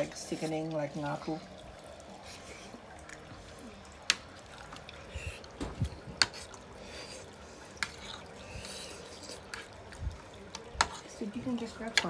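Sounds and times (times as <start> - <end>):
wet squishy chewing: 0.5 - 12.0.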